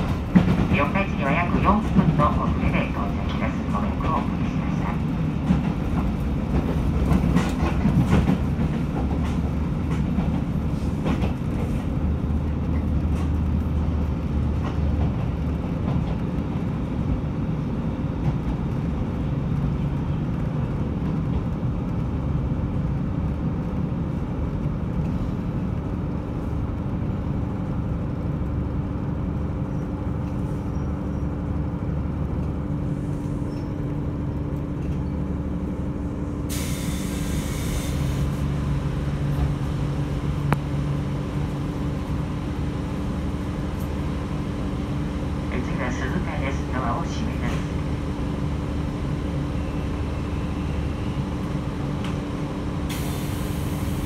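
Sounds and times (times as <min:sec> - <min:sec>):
train engine and wheels rumbling: 0:00.0 - 0:54.0.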